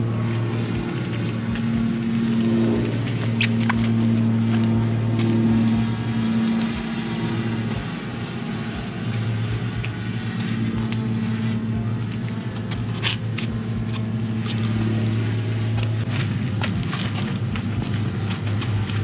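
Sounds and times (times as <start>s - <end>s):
pressure washer motor hum: 0.0s - 19.0s
sharp ticks and spatters: 0.0s - 19.0s.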